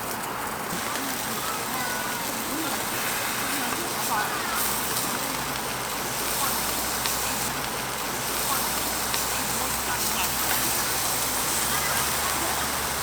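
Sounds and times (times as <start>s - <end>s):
flowing water rushing: 0.6s - 13.0s.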